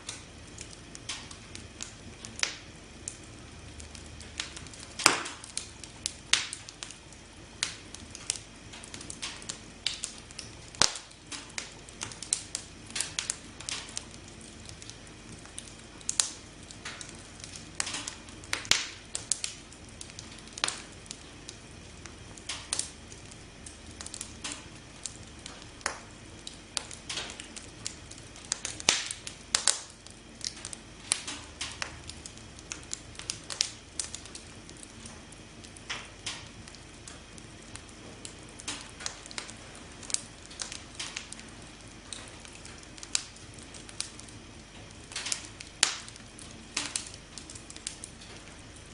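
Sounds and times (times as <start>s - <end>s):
campfire crackling: 0.0s - 48.9s
low hiss of flames: 0.0s - 48.9s.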